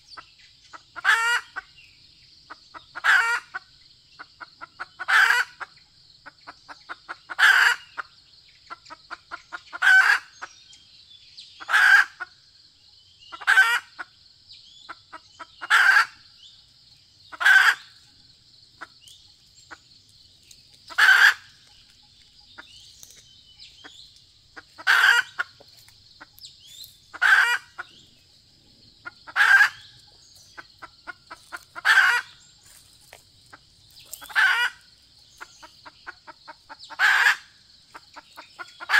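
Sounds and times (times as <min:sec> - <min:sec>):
hen clucking and cackling: 0:00.0 - 0:01.8, 0:02.5 - 0:10.6, 0:11.6 - 0:12.4, 0:13.3 - 0:16.4, 0:17.2 - 0:38.9.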